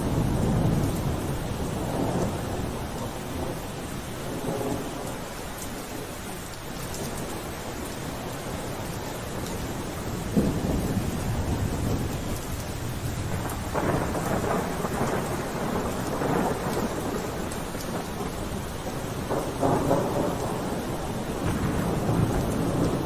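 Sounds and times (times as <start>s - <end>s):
steady rainfall: 0.0s - 23.0s.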